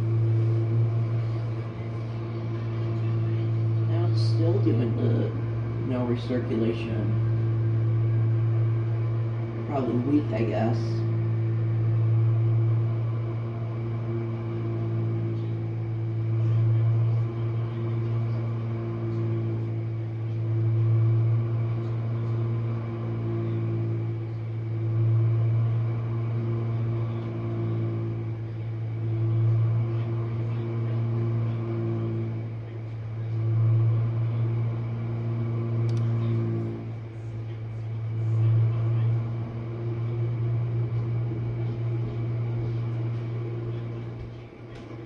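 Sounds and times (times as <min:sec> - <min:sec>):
dishwasher motor hum: 0:00.0 - 0:45.0.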